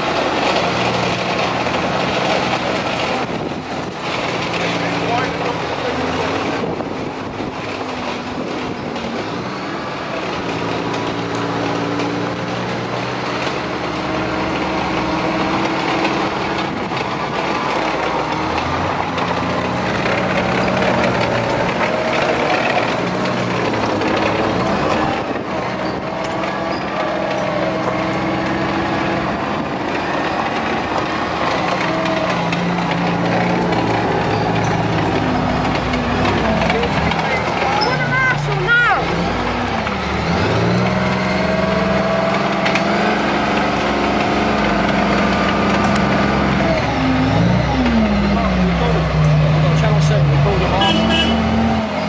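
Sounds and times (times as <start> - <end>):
armoured vehicle engine: 0.0 - 52.0
road noise: 0.0 - 52.0.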